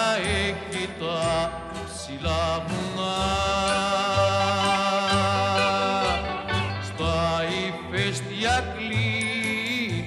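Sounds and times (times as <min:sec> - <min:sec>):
instrumental backing with bass: 0:00.0 - 0:10.0
person singing with vibrato: 0:00.0 - 0:10.0.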